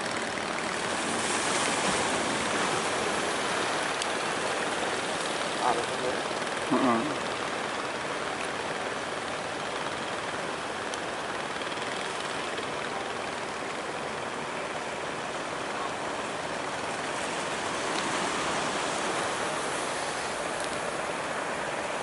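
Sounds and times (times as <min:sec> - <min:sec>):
sea water rushing: 0:00.0 - 0:22.0
wind: 0:00.0 - 0:22.0.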